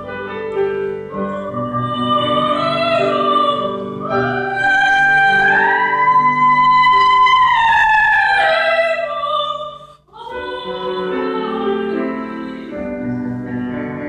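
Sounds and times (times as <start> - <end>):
piano accompaniment: 0.0 - 9.6, 10.2 - 14.0
soprano singing operatically: 1.1 - 13.0.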